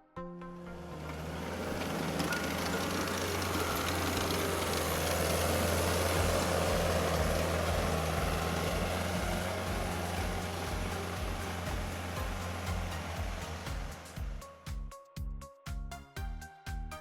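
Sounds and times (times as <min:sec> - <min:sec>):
tractor diesel engine drone: 0:00.7 - 0:14.4.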